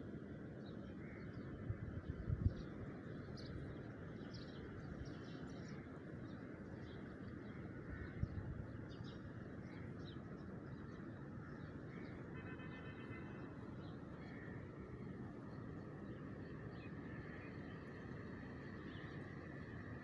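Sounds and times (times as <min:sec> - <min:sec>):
outdoor background hum: 0:00.0 - 0:20.0.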